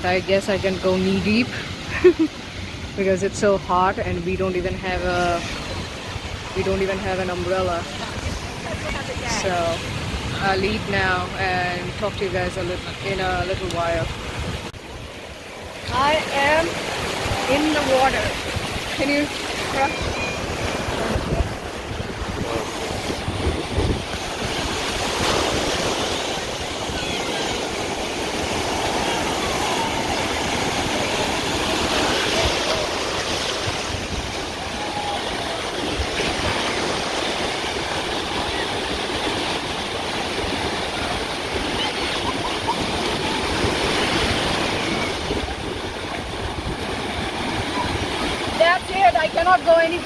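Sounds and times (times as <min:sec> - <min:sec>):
ocean waves breaking: 0:00.0 - 0:50.0.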